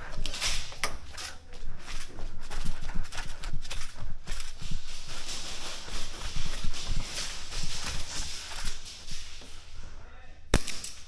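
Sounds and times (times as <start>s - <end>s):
running footsteps: 0.0s - 10.0s.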